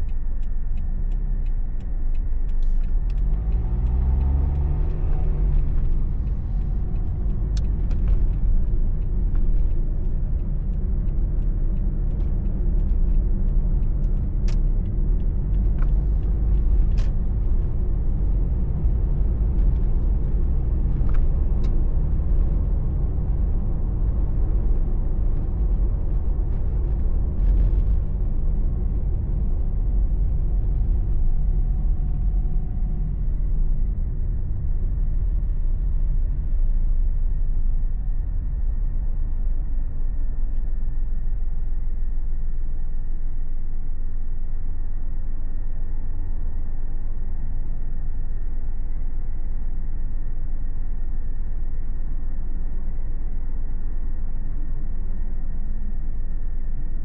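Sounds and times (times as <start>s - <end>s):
engine and tyre rumble in car: 0.0s - 57.0s.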